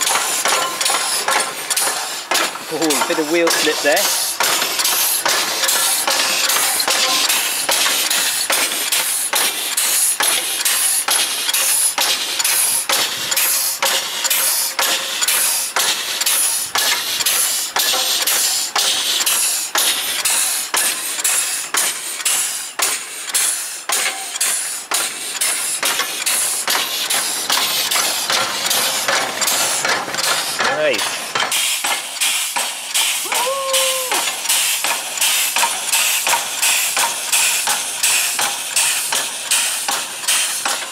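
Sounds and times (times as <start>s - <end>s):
hissing puffs of air exhaust: 0.0s - 40.8s.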